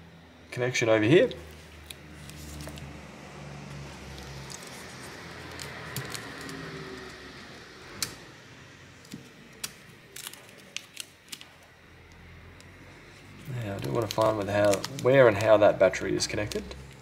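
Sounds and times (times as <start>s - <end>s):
tape crinkling: 1.3s - 8.3s, 9.0s - 17.0s.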